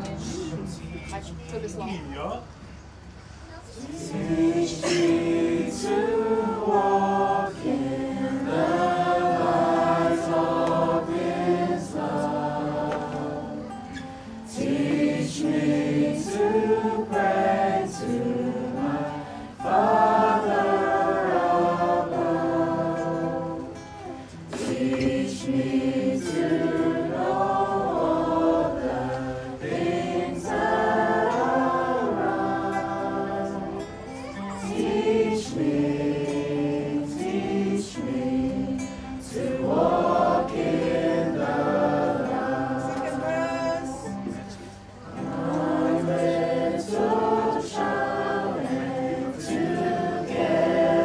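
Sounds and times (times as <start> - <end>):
acoustic guitar: 0.0 - 51.0
group singing in harmony: 3.8 - 51.0.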